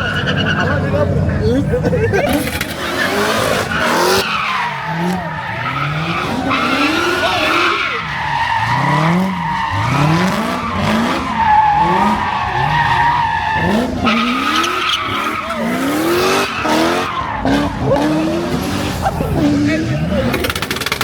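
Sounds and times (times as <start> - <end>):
car engine revving: 0.0 - 21.0
tyres squealing: 2.2 - 21.0.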